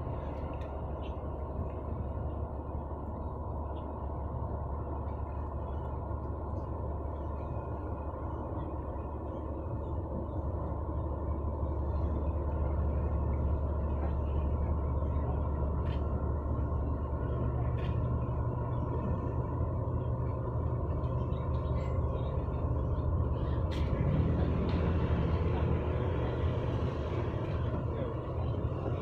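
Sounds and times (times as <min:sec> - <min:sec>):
ship engines rumbling: 0:00.0 - 0:29.0.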